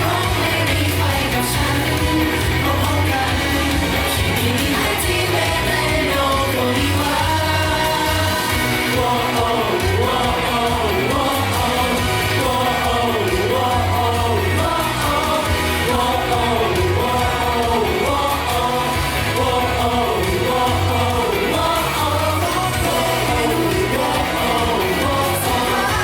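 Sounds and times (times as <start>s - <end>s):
pop song with singer: 0.0s - 26.0s
pulsing bass line: 0.0s - 26.0s.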